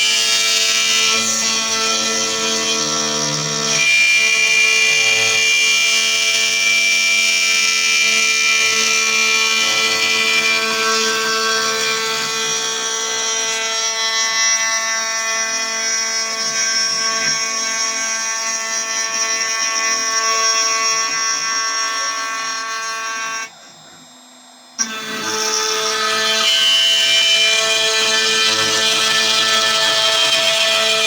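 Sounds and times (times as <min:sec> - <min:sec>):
cnc machine whining: 0:00.0 - 0:31.0.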